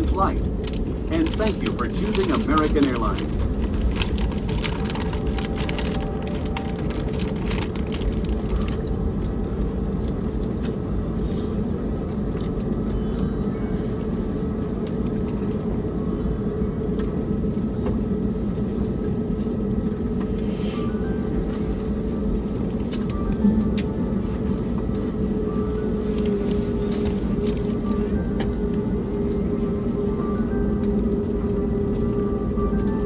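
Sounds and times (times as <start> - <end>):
aircraft cabin rumble: 0.0 - 33.0
low steady hum: 0.0 - 33.0.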